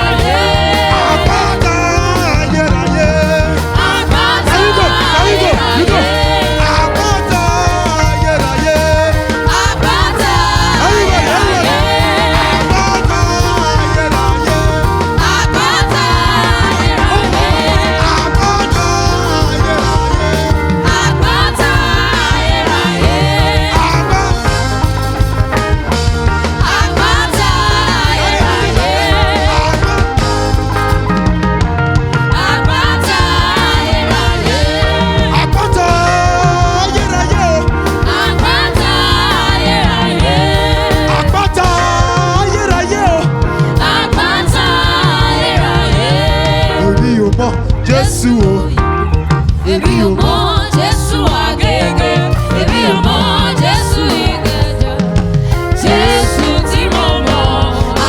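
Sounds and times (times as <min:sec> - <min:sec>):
person singing: 0:00.0 - 0:24.9, 0:26.6 - 0:30.7, 0:32.4 - 0:58.0
worship band playing upbeat groove: 0:00.0 - 0:58.0.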